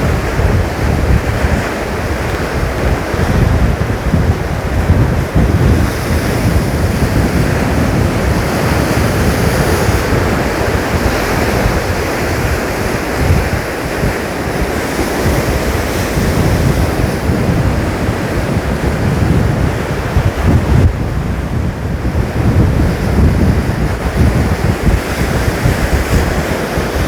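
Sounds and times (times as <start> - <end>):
surf crashing on rocks: 0.0 - 27.0
wind buffeting microphone: 0.0 - 27.0.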